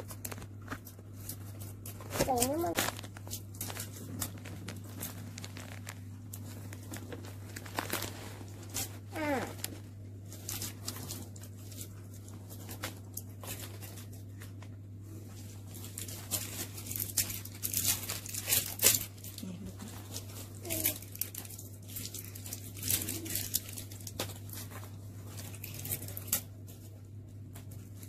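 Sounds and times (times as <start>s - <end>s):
plastic wrappers crinkling: 0.0s - 28.0s
steady low hum: 0.0s - 28.0s.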